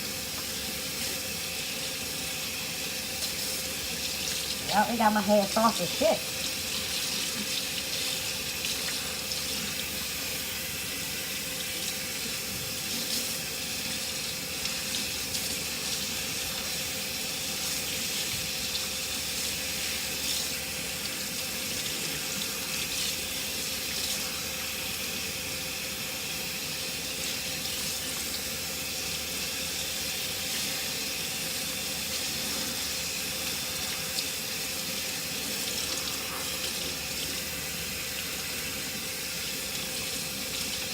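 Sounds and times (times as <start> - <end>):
tap water running and splashing: 0.0 - 40.9.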